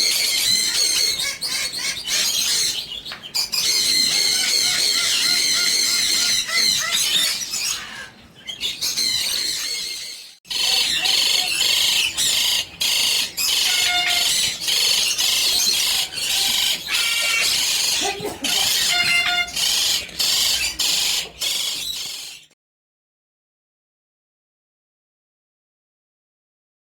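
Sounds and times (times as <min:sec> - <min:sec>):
lovebirds chattering and screeching: 0:00.0 - 0:22.6.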